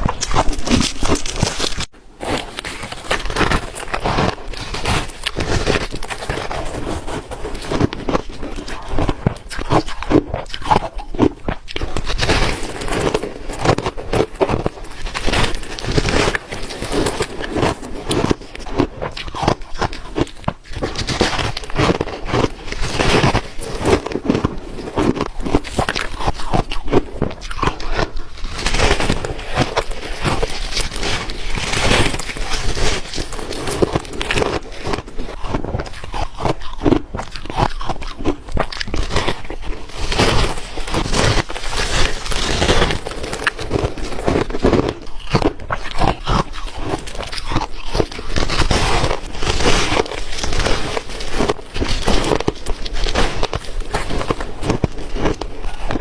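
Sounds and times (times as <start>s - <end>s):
person chewing crunchy ice: 0.0s - 56.0s.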